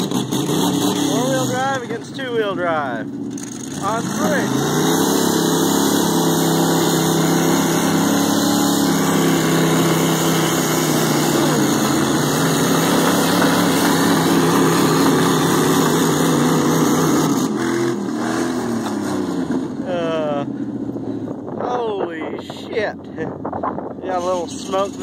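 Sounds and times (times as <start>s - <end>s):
tires spinning in mud: 0.0s - 22.6s
truck engines at high revs: 0.0s - 25.0s.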